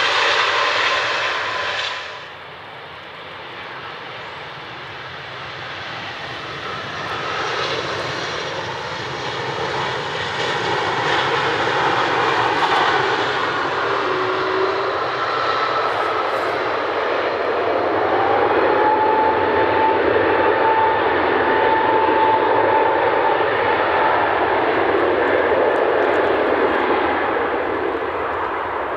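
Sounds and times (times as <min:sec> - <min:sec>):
engine whine: 0:00.0 - 0:28.9
jet engines roaring: 0:00.0 - 0:28.9.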